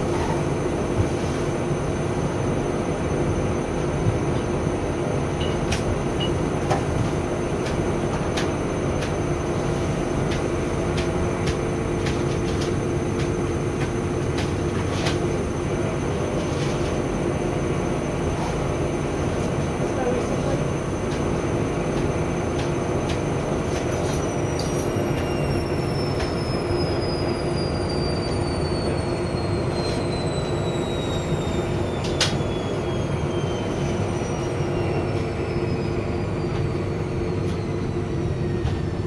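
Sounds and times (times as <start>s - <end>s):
washing machine motor hum: 0.0s - 39.0s.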